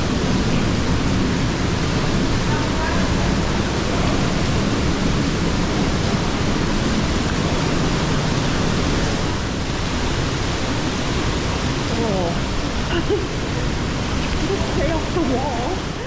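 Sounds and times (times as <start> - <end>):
water rushing through gorge: 0.0 - 16.0.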